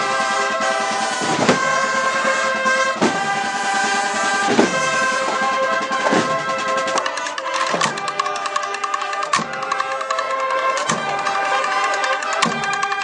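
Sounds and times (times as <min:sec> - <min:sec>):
brass band playing a march: 0:00.0 - 0:13.0
drum strokes: 0:00.0 - 0:13.0.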